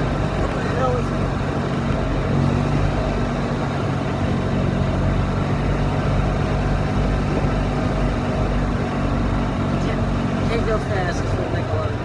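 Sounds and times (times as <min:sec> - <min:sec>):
golf cart motor hum: 0:00.0 - 0:12.0.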